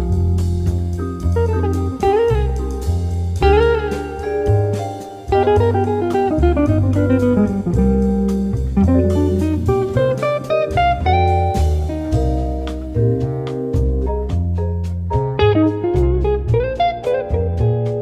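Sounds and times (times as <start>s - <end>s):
jazzy blues guitar music: 0.0s - 18.0s.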